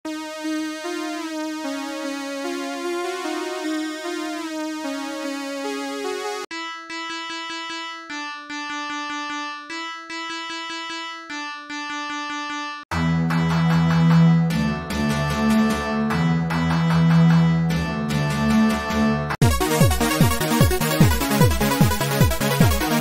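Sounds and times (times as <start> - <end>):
electric piano keyboard melody: 0.1 - 23.0.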